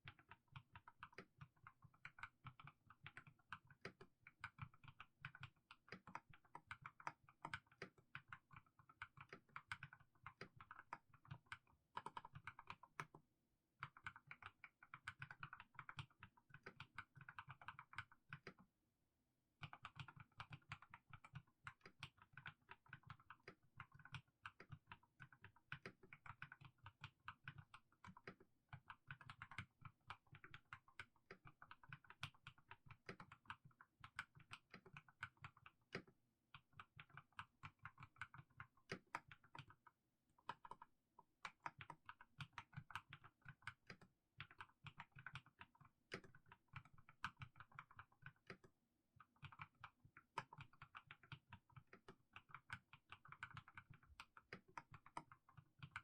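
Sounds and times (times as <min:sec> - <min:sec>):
soft keyboard keystroke clacks: 0:00.0 - 0:13.2, 0:13.8 - 0:18.7, 0:19.6 - 0:56.0.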